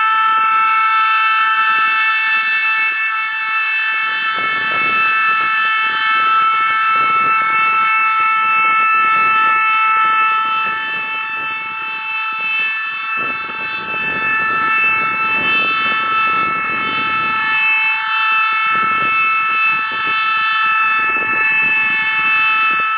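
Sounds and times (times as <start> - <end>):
warning siren steady pitch: 0.0 - 22.9
low rumbling noise: 4.3 - 22.9.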